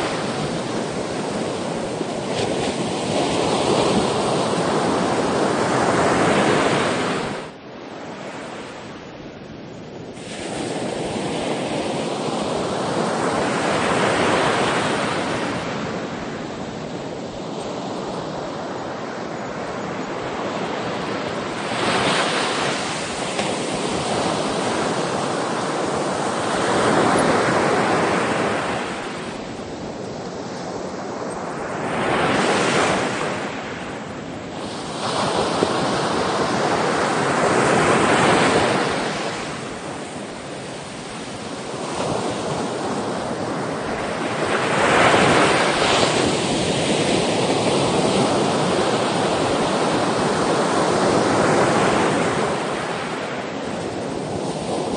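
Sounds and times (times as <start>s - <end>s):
sea waves breaking on shore: 0.0s - 54.9s
wind on microphone: 0.0s - 54.9s.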